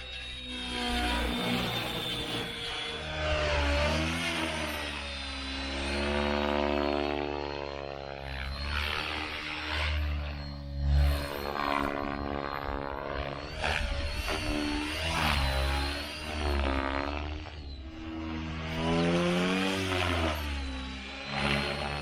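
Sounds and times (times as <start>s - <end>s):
rc helicopter rotor whine: 0.0s - 22.0s.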